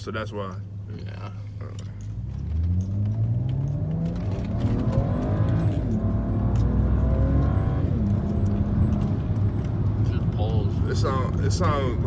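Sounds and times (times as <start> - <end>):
car engine accelerating hard: 2.0 - 12.0.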